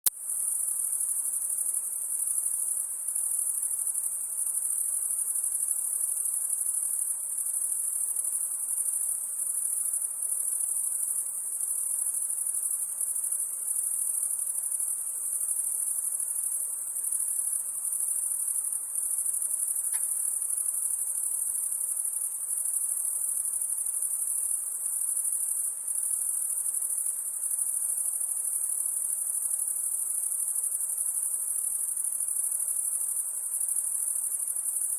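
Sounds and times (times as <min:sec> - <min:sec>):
crickets chirring: 0:00.2 - 0:34.9.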